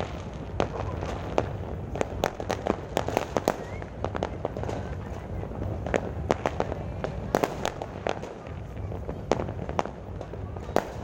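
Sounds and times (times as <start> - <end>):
fireworks popping and banging: 0.0 - 11.0.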